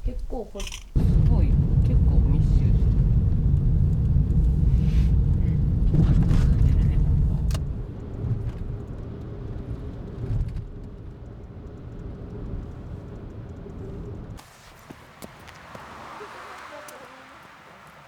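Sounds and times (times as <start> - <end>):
faint steady hum: 0.0 - 15.5
car road and engine rumble: 0.0 - 18.0.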